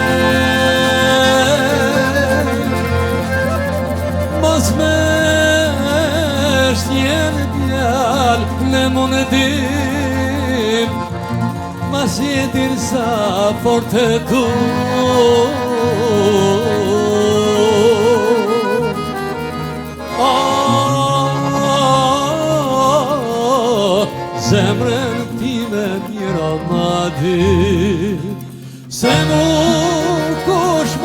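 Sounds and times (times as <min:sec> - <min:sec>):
folk instrumental accompaniment: 0:00.0 - 0:31.0
person singing ornamented melody: 0:00.0 - 0:31.0.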